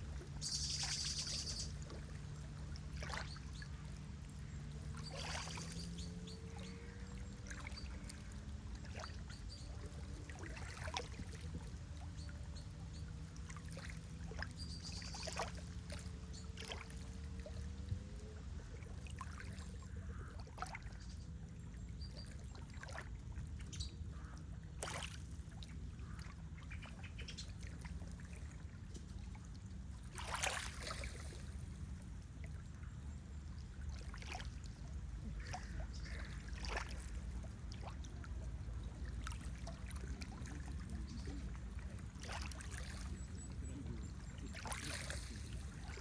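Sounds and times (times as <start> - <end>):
small water splashes: 0.0 - 46.0
water lapping and trickling: 0.0 - 46.0.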